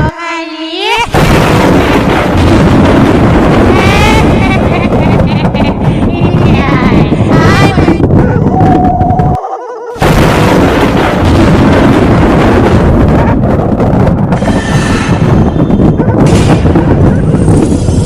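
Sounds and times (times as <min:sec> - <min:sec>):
dense booming rumble: 0:01.1 - 0:09.4, 0:10.0 - 0:18.0.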